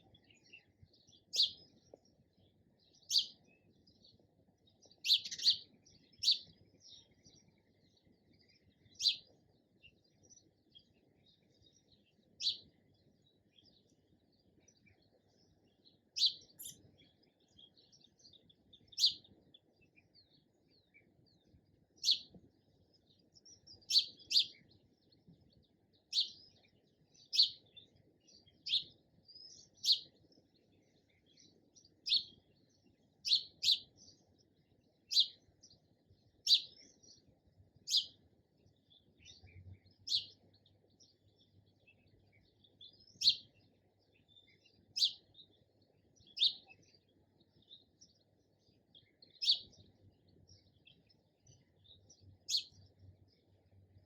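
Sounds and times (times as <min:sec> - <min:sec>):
sparrow chirping: 0:00.0 - 0:54.0.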